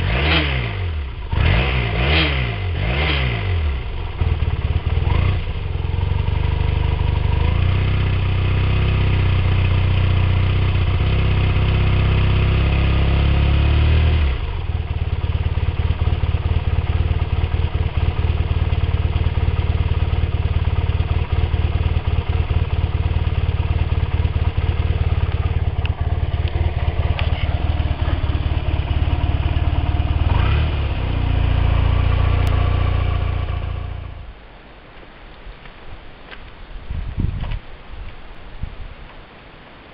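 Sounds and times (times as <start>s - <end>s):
motorcycle engine revving and idling: 0.0s - 34.4s.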